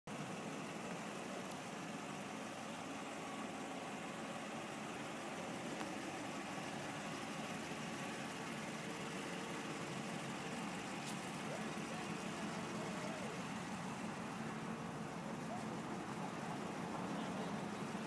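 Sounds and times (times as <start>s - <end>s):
pickup truck idling: 0.1s - 18.0s.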